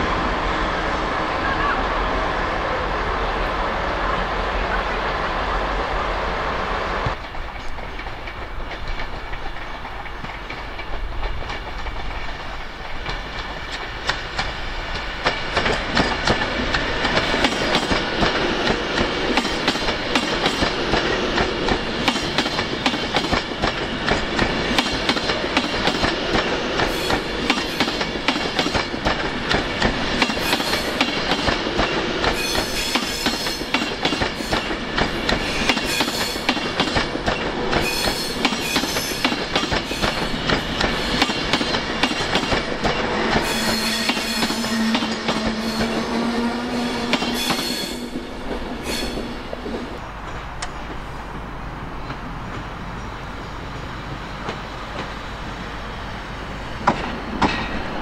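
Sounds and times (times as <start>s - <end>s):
train wheels clattering over rails: 7.0s - 52.8s, 56.8s - 58.0s.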